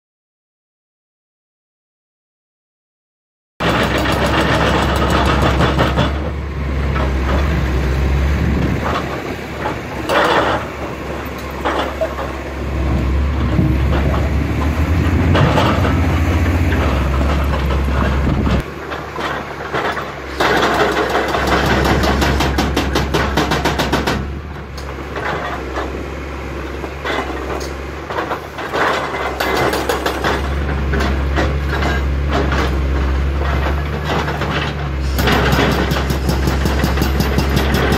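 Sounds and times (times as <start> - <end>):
hydraulic breaker hammering rock: 3.6 - 7.5, 8.6 - 26.0, 27.0 - 37.9
excavator diesel engine running: 3.6 - 37.9.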